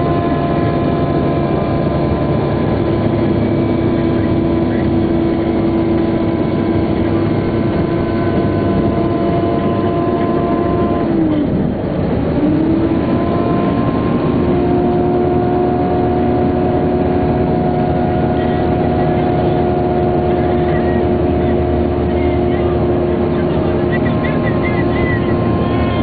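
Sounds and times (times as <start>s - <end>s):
coach engine whining: 0.0s - 26.0s.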